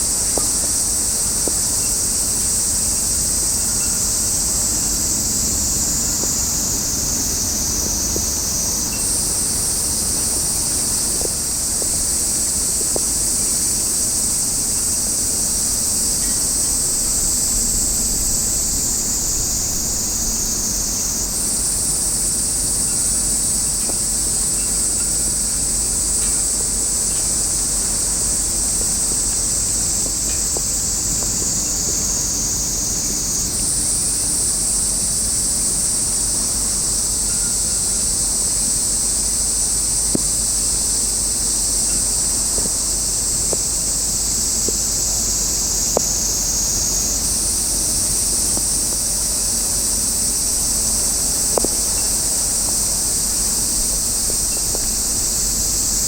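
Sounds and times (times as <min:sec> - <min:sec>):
cicadas droning: 0:00.0 - 0:56.0.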